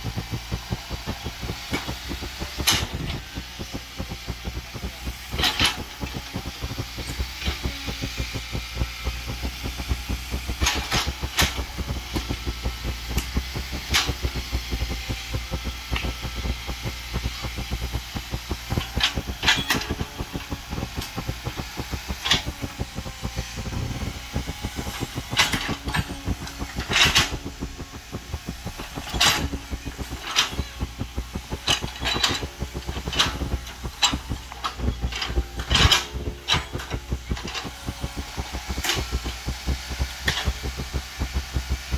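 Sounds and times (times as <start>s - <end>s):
excavator diesel engine throbbing: 0.0s - 41.9s.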